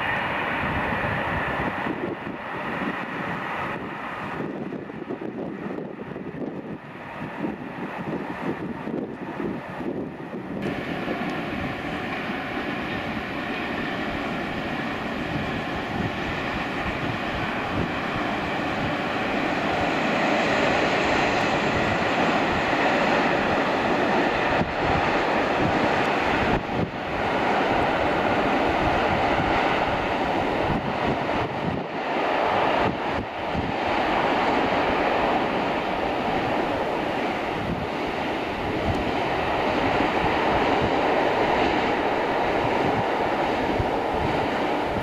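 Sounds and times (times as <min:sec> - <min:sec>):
freight train rumbling past: 0:00.0 - 0:45.0.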